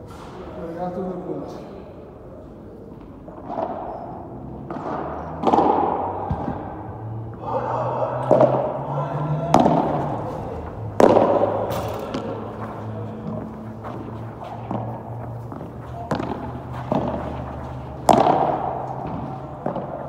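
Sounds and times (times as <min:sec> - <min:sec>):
ball hits echoing in hall: 0:02.9 - 0:20.0.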